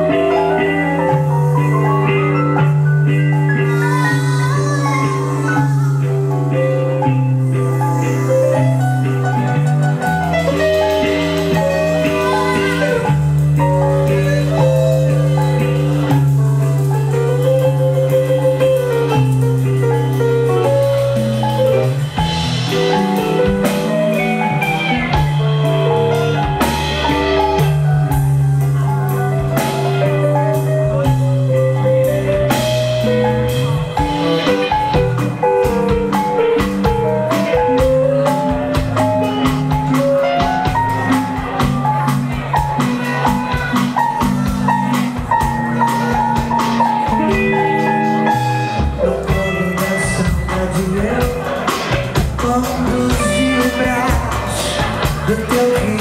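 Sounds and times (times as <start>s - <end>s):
live band playing: 0.0s - 56.0s.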